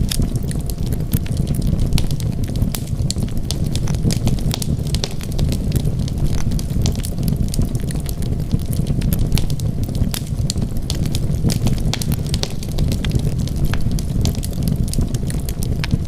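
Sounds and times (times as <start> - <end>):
fire flames rumbling: 0.0 - 16.0
wood fire crackling: 0.0 - 16.0.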